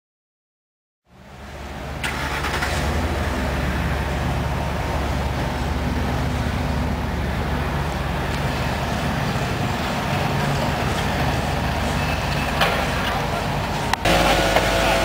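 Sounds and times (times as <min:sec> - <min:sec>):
engine running steadily: 0:01.1 - 0:15.0.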